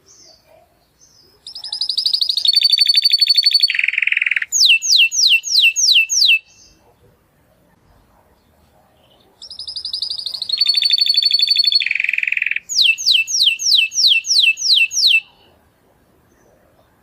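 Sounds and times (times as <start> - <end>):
canary singing: 0.0 - 7.1, 9.0 - 17.0.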